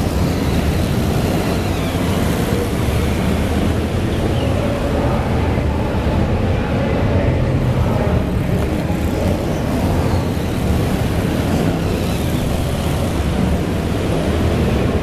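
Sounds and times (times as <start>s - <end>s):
race car engines din: 0.0s - 15.0s.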